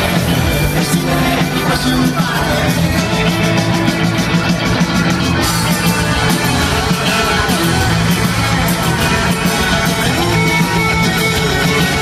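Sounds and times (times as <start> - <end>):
drums: 0.0 - 12.0
electric guitar: 0.0 - 12.0
live rock band playing: 0.0 - 12.0.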